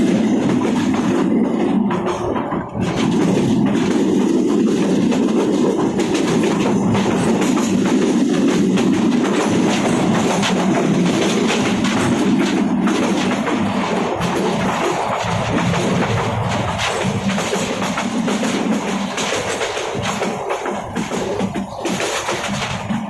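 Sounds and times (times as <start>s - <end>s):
train rumbling: 0.0s - 23.0s
wheels clattering over rail joints: 0.0s - 23.0s.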